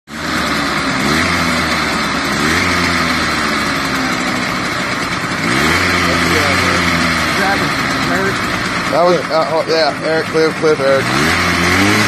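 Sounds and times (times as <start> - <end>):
mini bike engine revving: 0.1 - 12.0.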